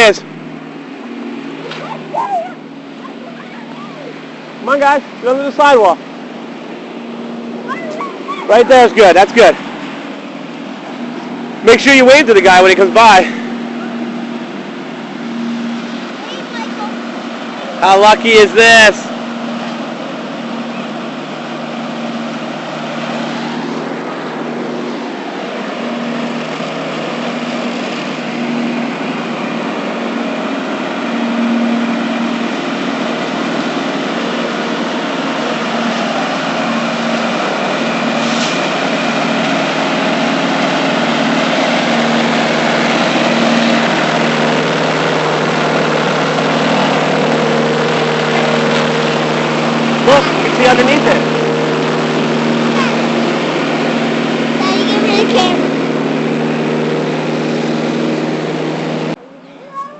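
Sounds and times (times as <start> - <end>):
vehicle engine approaching: 0.0 - 59.9.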